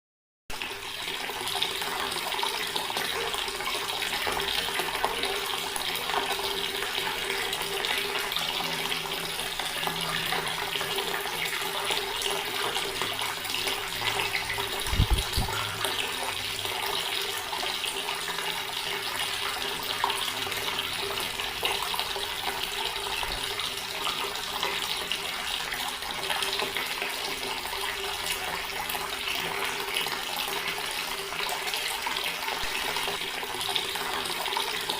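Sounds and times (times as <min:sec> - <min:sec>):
tap water into stone basin: 0:00.6 - 0:30.9.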